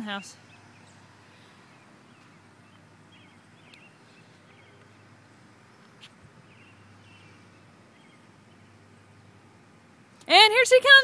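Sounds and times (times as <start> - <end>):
steady low hum: 0.0 - 10.2
faint songbirds chirping: 0.0 - 10.3.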